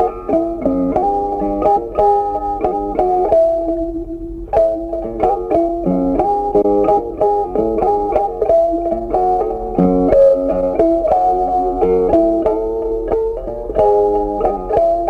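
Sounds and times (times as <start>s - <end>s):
plucked melody music: 0.0s - 15.0s.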